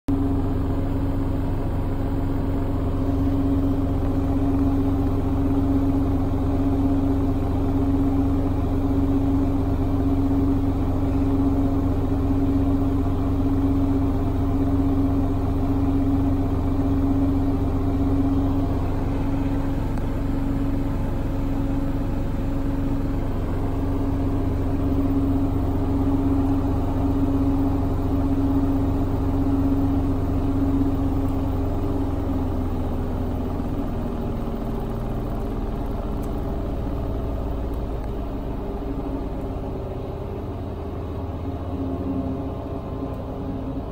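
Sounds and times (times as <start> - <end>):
washing machine spinning: 0.1 - 43.9.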